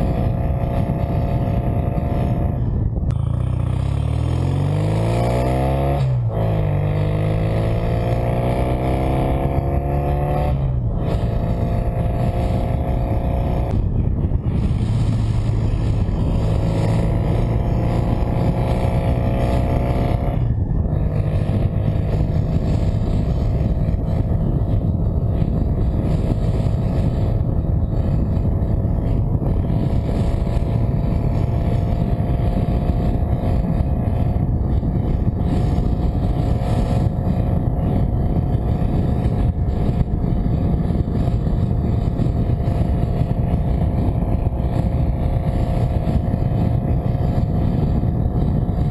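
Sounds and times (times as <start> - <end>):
vehicle engine droning: 0.0 - 48.9.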